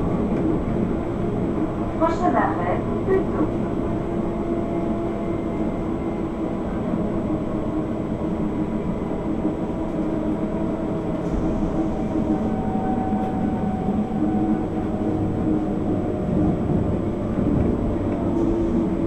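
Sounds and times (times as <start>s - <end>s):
constant train hum: 0.0s - 19.0s
train rolling rumble: 0.0s - 19.0s.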